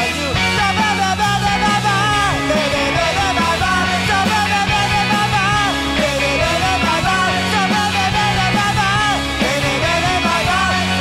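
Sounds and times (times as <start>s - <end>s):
bending lead guitar line: 0.0s - 11.0s
drums and bass beat: 0.0s - 11.0s
garage rock band: 0.0s - 11.0s.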